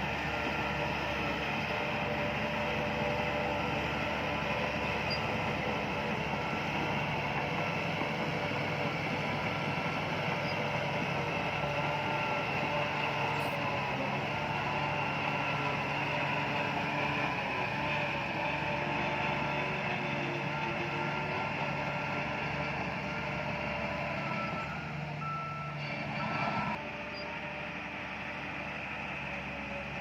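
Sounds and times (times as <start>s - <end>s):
diesel engine drone: 0.0s - 30.0s.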